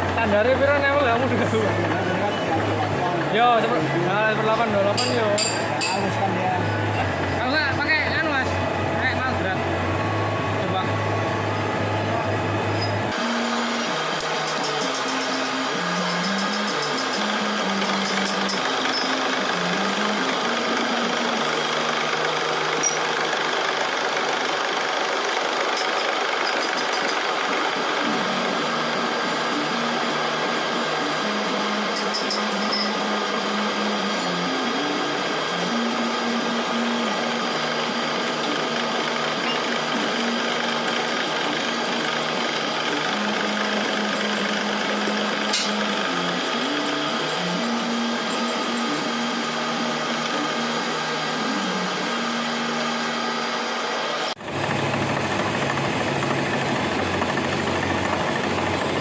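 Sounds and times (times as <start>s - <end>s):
deep machine hum: 0.0s - 26.5s, 27.2s - 59.0s
milling machine whirring: 0.0s - 59.0s.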